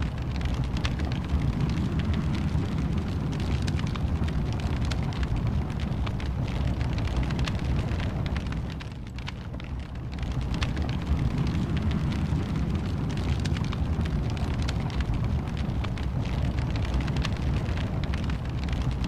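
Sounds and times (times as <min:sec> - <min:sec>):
fire crackles and pops: 0:00.0 - 0:19.0
wood fire burning: 0:00.0 - 0:19.0.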